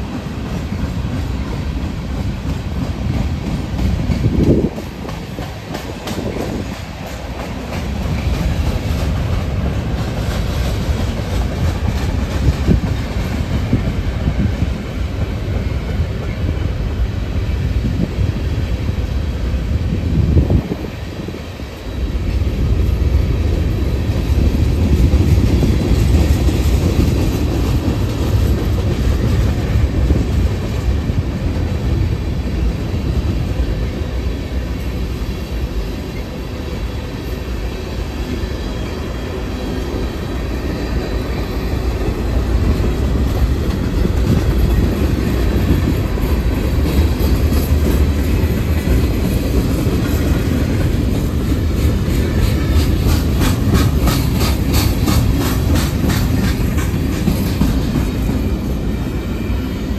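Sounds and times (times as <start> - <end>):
freight train cars rolling: 0.0 - 59.9.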